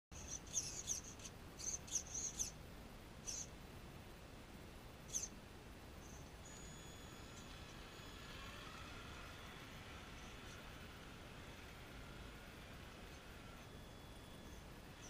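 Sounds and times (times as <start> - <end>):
small bird chirping: 0.1 - 2.6, 3.2 - 3.6, 5.0 - 5.4, 6.0 - 15.0
faint steady hiss: 0.2 - 15.0.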